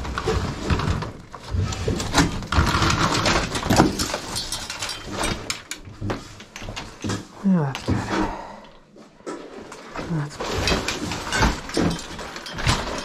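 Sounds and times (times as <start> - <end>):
debris knocking and scraping: 0.0 - 8.3, 9.0 - 13.0.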